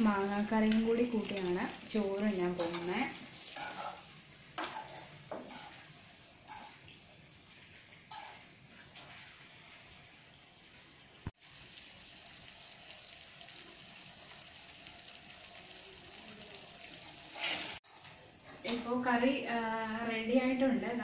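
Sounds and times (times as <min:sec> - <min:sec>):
meat sizzling in a pan: 0:00.0 - 0:17.8.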